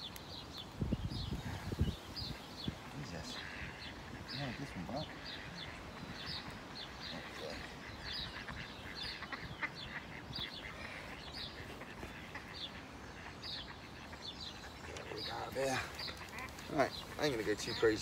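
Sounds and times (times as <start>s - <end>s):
birds calling: 0.0s - 18.0s
outdoor background hiss: 0.0s - 18.0s.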